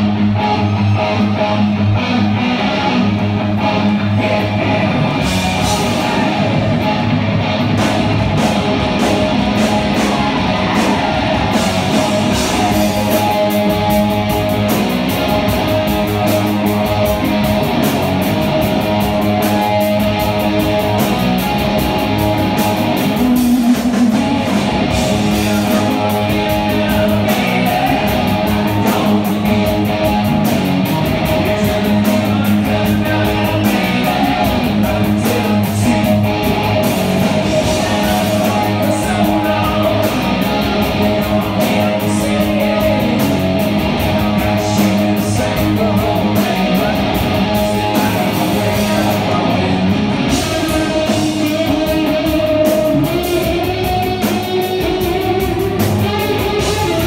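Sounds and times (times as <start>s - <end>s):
electric guitar sustained notes: 0.0s - 57.0s
live rock music: 0.0s - 57.0s.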